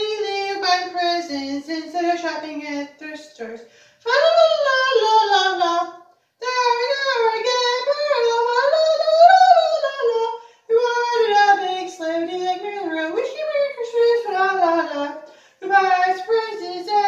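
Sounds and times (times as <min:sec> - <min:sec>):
high voice singing unaccompanied: 0:00.0 - 0:17.0.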